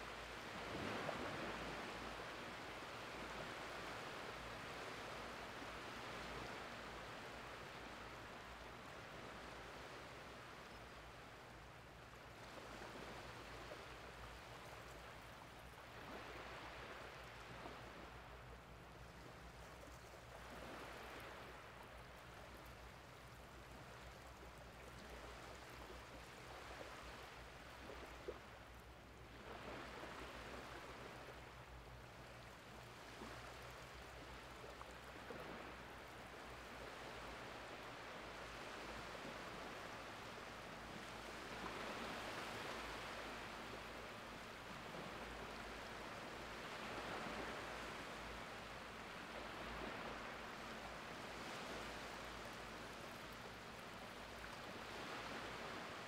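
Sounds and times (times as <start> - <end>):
wavelets lapping on sandy beach: 0.0 - 56.0.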